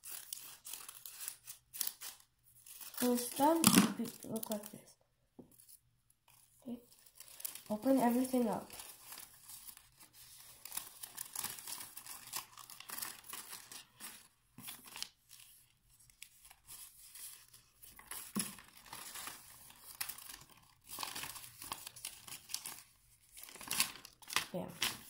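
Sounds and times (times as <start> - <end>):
paper rustling and crinkling: 0.0 - 4.8, 5.5 - 25.0.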